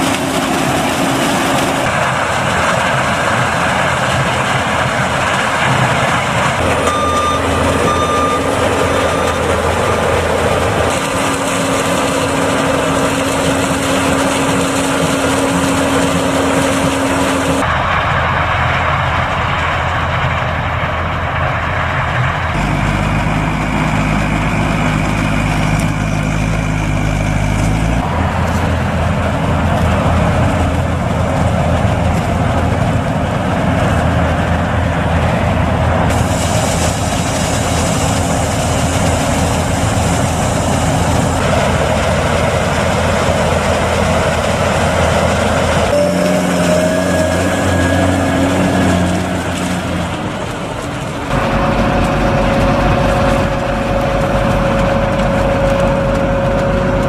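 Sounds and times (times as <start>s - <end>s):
combine harvester running: 0.0s - 57.0s
tractor driving: 0.0s - 57.0s.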